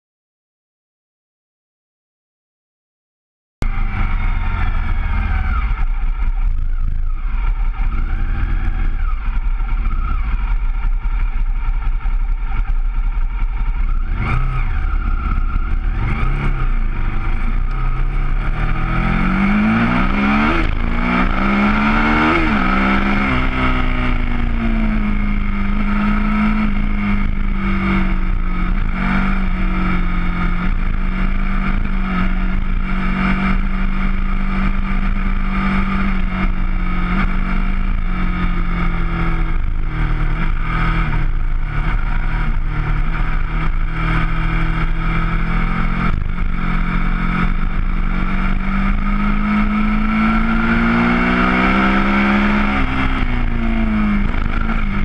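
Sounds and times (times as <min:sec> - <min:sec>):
motorcycle engine at speed: 0:03.6 - 0:55.0.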